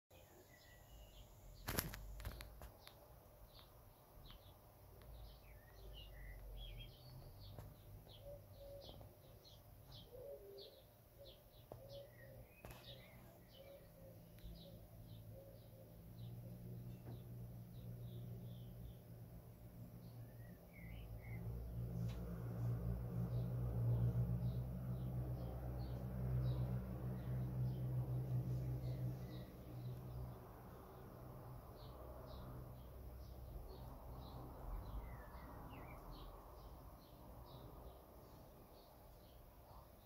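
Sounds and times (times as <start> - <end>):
small birds chirping: 0.1 - 40.0.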